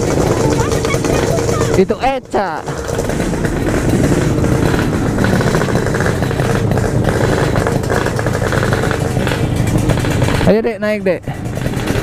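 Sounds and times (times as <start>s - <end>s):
two-stroke motorcycle engines rumbling: 0.0s - 12.0s.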